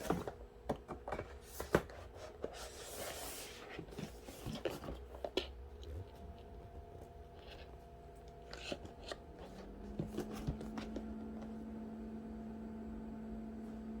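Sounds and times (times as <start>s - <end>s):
objects being handled: 0.0s - 11.5s
steady low hum: 0.0s - 14.0s.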